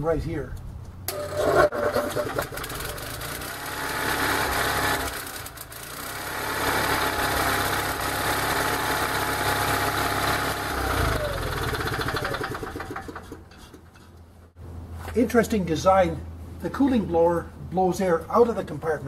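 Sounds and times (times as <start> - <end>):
generator engine hum: 1.1 - 17.7.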